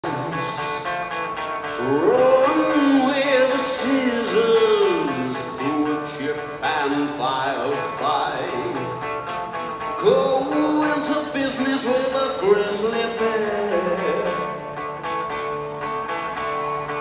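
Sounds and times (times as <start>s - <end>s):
electric guitar riff: 0.0s - 17.0s
rock band playing live: 0.0s - 17.0s.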